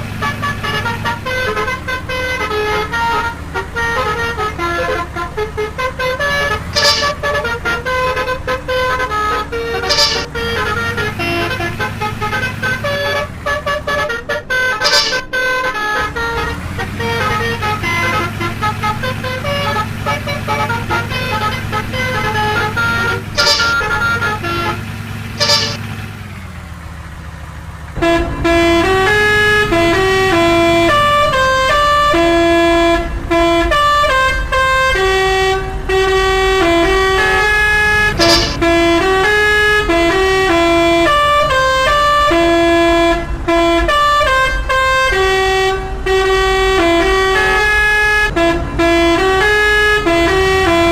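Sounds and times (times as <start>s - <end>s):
bus musical horn melody: 0.0s - 26.5s, 27.9s - 50.9s
low engine hum: 0.0s - 50.9s.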